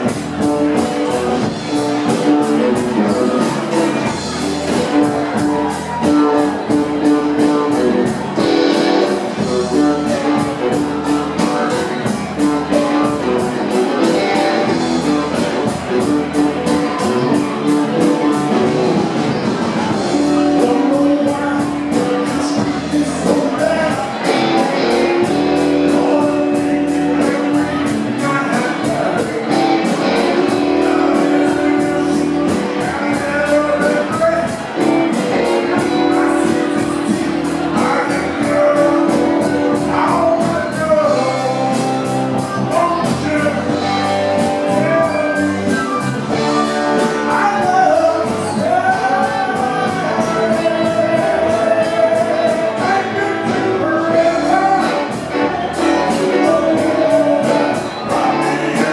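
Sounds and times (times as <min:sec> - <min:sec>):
live rock band playing: 0:00.0 - 0:58.9.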